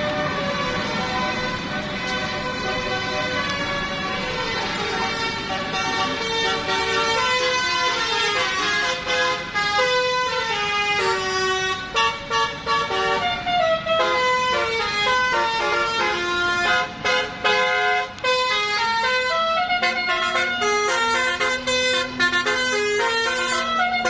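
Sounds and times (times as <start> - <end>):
musical bus air horn tune: 0.0 - 24.0.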